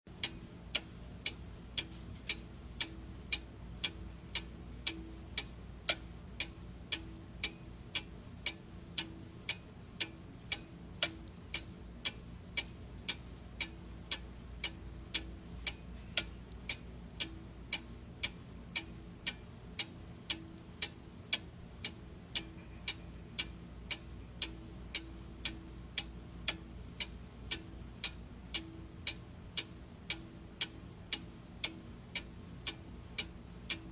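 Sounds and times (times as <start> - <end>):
clock ticking: 0.1 - 33.9
faint low hum: 0.1 - 33.9.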